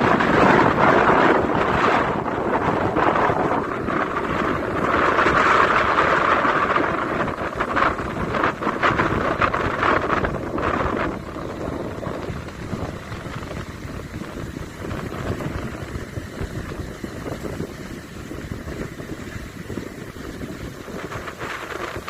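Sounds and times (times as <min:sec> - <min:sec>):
sea surf: 0:00.0 - 0:22.0
wind buffeting microphone: 0:00.0 - 0:22.0.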